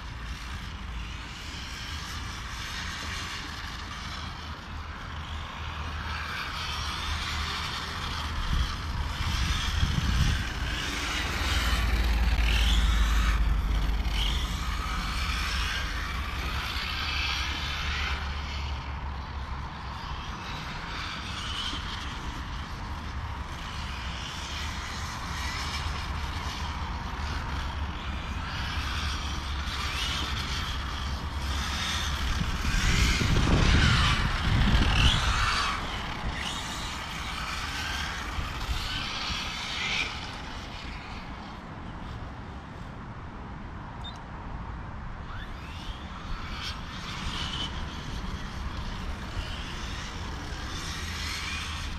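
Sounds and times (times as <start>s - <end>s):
rc car electric motor whining: 0.0s - 42.4s, 45.2s - 51.9s
wind rumble on microphone: 0.0s - 51.9s.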